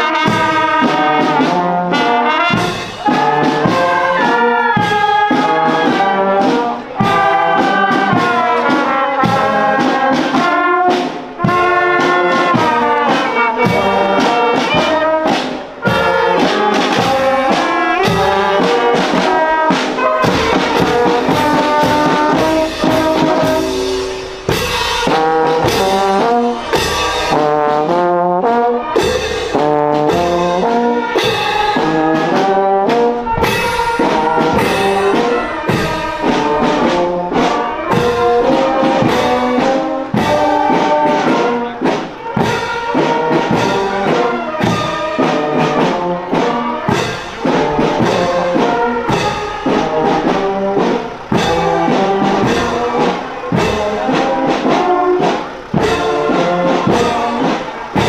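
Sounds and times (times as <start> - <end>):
brass horns and tubas: 0.0 - 58.0.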